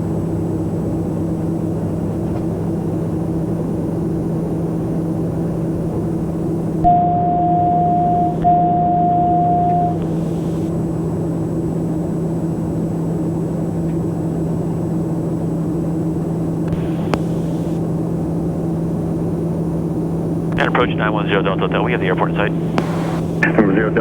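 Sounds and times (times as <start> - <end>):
turboprop engine drone in cockpit: 0.0 - 24.0.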